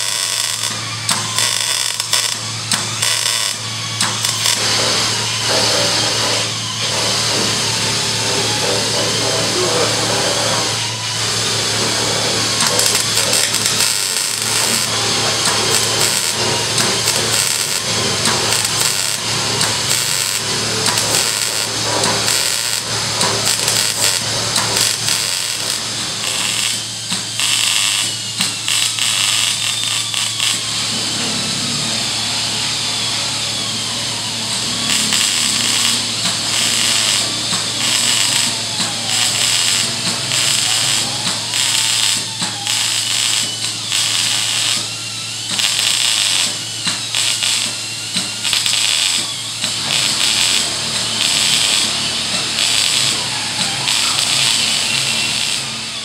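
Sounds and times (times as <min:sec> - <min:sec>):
welding arc crackling: 0:00.0 - 0:31.0, 0:34.4 - 0:56.0.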